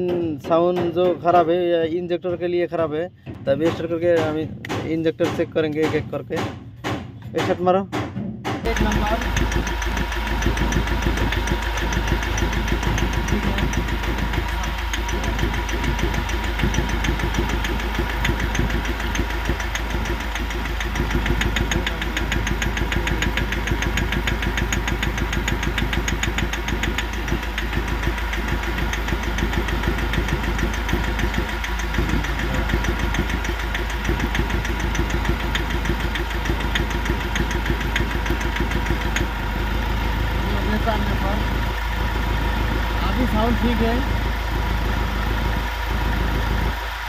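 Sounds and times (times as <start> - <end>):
diesel engine idling with knock: 0.0 - 47.0.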